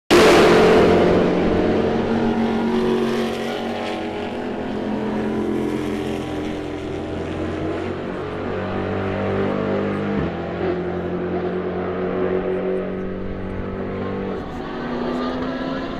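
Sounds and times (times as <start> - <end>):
race car engines passing: 0.1 - 15.9.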